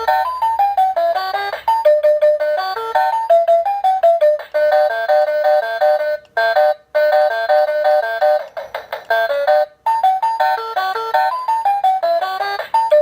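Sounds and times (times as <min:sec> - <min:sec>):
toy cash register electronic tune: 0:00.0 - 0:13.0.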